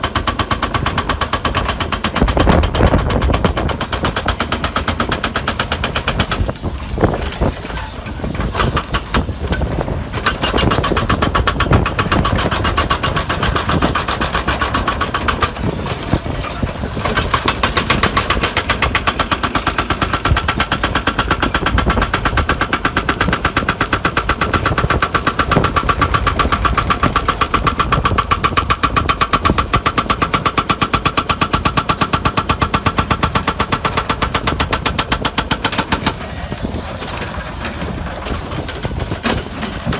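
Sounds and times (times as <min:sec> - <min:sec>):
hydraulic rock breaker hammering: 0:00.0 - 0:39.9.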